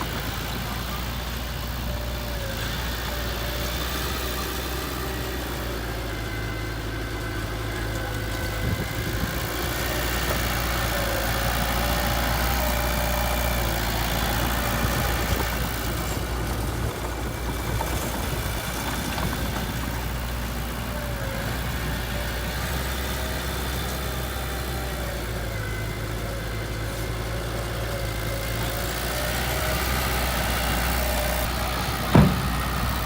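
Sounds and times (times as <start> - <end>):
heavy diesel engine idling: 0.0 - 33.0.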